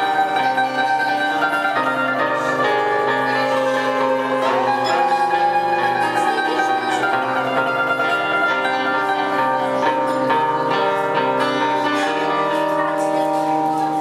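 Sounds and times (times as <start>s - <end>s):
live band instrumental music: 0.0s - 14.0s.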